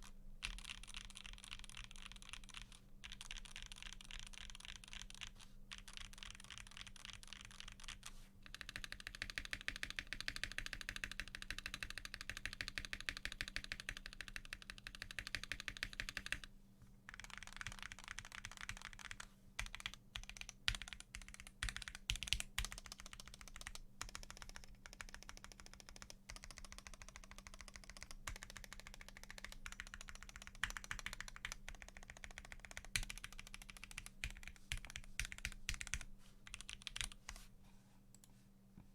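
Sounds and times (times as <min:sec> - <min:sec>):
fast mechanical keyboard typing: 0:00.4 - 0:16.5, 0:17.1 - 0:37.2.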